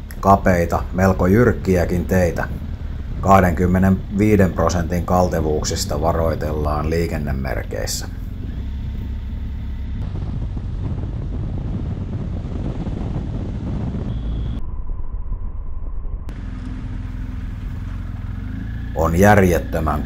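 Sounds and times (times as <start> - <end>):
wind rushing on microphone: 0.0 - 16.4
motorcycle engine rumbling: 0.0 - 20.0.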